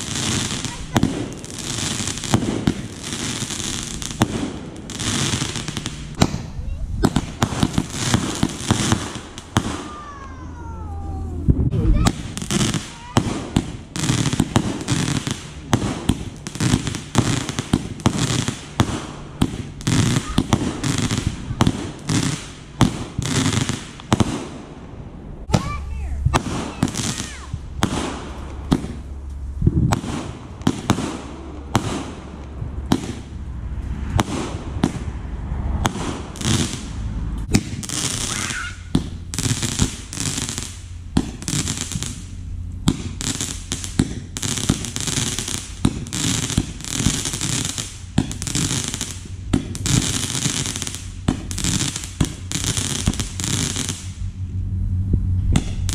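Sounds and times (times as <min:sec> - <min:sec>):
fireworks bangs and crackles: 0:00.0 - 0:54.4, 0:55.5 - 0:55.9.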